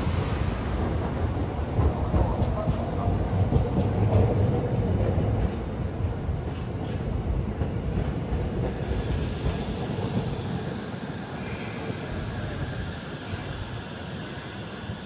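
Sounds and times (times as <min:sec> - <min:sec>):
streetcar rumbling on rails: 0:00.0 - 0:15.0.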